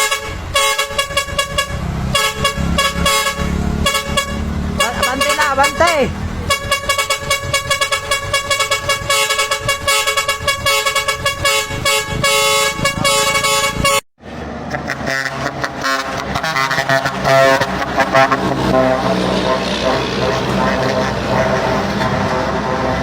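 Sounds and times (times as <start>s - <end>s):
loud stuttering horn: 0.0s - 14.0s, 14.6s - 23.0s
lower horn sound: 0.0s - 14.0s, 14.7s - 23.0s.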